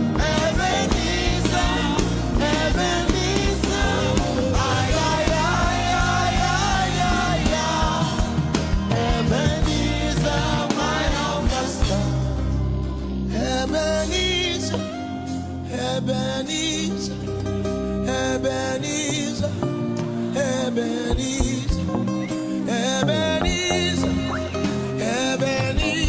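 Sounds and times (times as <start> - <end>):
band playing gospel music: 0.0 - 17.1, 17.9 - 26.0
person singing: 0.0 - 17.2, 20.2 - 26.0.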